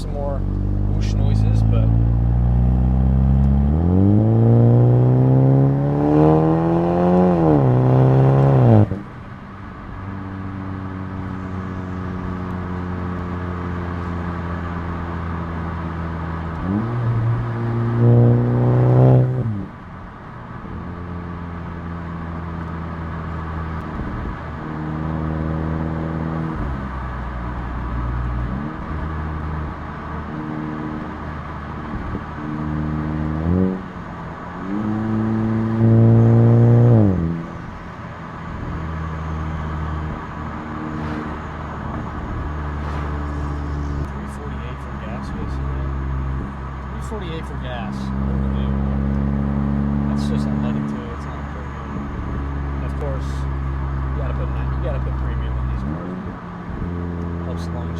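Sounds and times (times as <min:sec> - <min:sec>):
car exhaust accelerating: 0:00.0 - 0:57.9.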